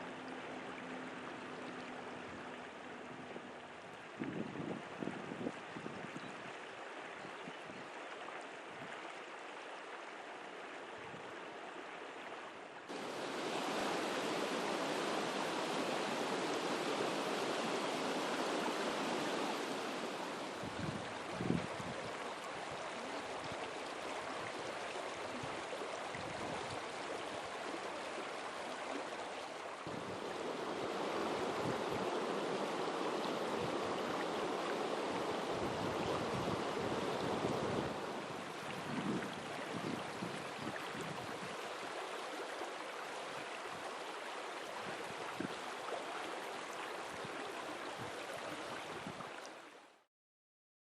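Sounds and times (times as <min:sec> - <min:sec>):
water rushing: 0:00.0 - 0:05.8, 0:08.0 - 0:50.1.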